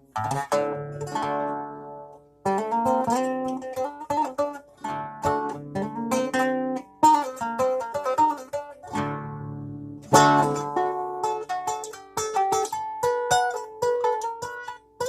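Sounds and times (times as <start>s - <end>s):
plucked string instrument strumming: 0.0s - 15.0s.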